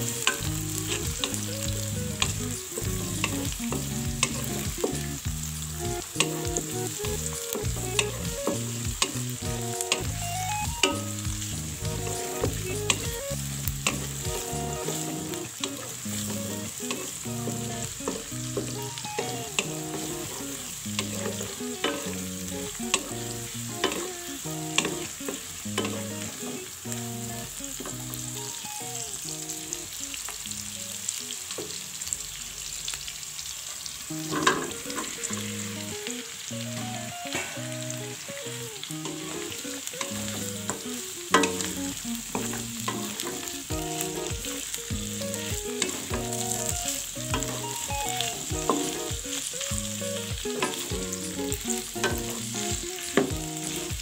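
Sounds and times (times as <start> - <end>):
quiet tune of held notes: 0.0 - 31.2, 34.1 - 54.0
food sizzling in hot oil: 0.0 - 54.0.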